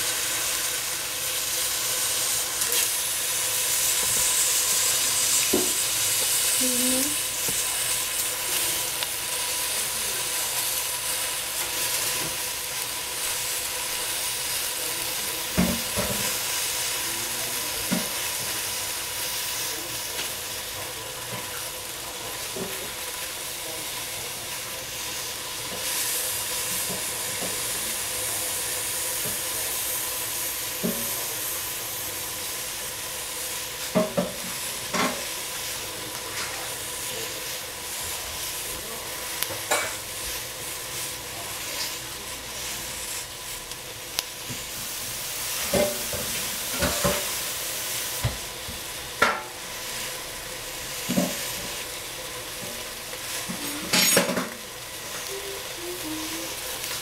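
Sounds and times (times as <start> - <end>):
vegetables sizzling in a pot: 0.0 - 57.0.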